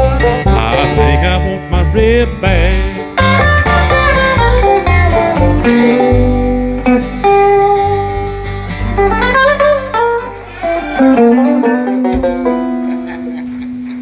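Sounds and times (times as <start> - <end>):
bluegrass band playing: 0.0 - 14.0
plucked guitar runs: 0.0 - 14.0.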